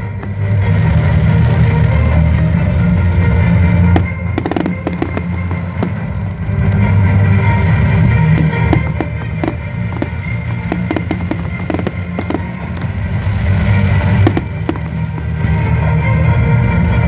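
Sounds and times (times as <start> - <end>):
fireworks bangs and crackles: 0.0 - 17.0
music with heavy bass: 0.0 - 17.0.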